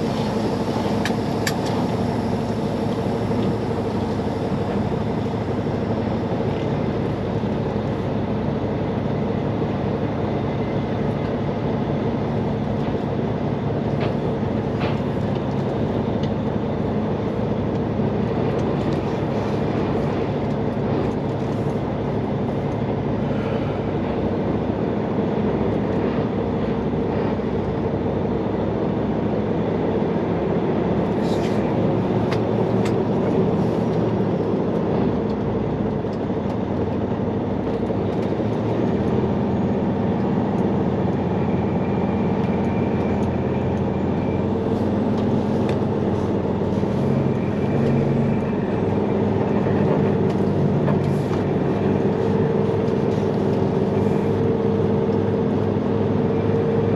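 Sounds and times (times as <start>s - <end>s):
diesel truck engine running: 0.0s - 56.9s
road noise: 0.0s - 56.9s.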